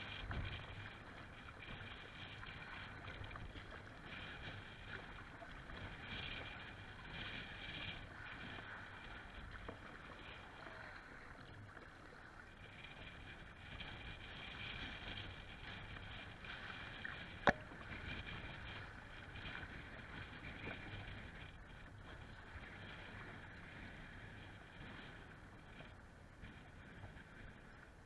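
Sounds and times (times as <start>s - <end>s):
waves and paddle splashing: 0.0s - 28.0s.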